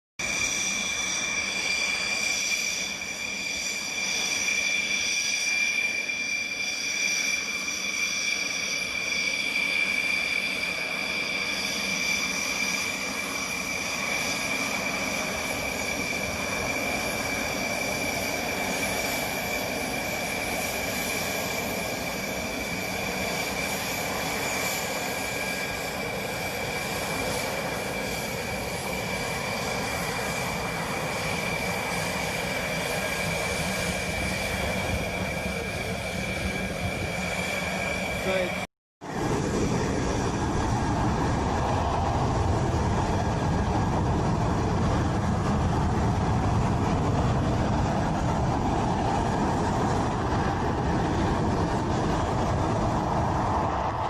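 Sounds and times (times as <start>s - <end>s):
jet engines running: 0.2s - 54.0s.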